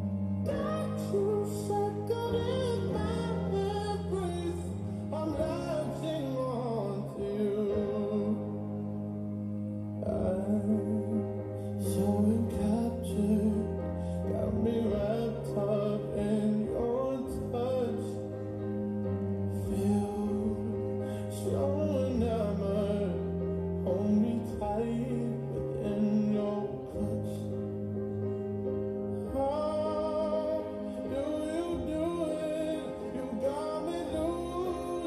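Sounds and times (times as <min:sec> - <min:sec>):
held chords: 0:00.0 - 0:35.0
person singing: 0:00.0 - 0:35.0.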